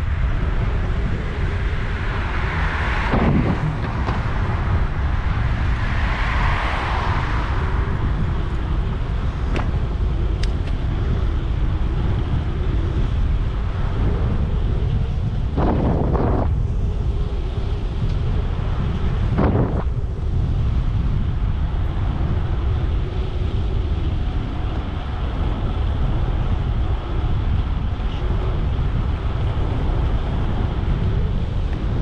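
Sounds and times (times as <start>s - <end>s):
street traffic: 0.0s - 32.0s
vehicles passing: 0.0s - 32.0s
wind buffeting microphone: 0.0s - 32.0s.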